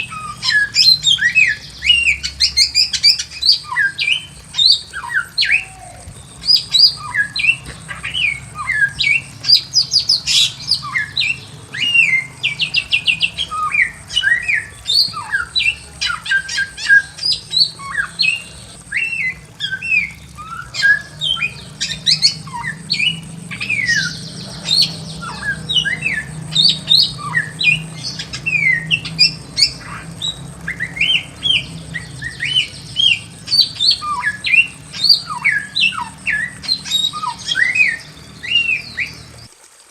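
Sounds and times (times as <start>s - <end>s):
bird chattering trills: 0.0s - 39.5s
bird singing whistled notes: 0.0s - 39.5s.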